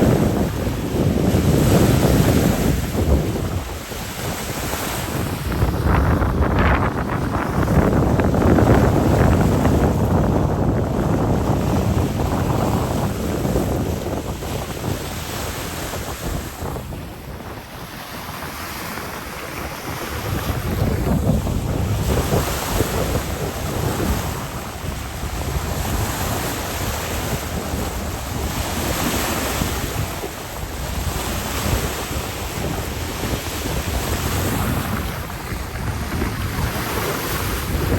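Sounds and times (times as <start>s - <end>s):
choppy water breaking: 0.0s - 37.9s
wind gusting over microphone: 0.0s - 37.9s.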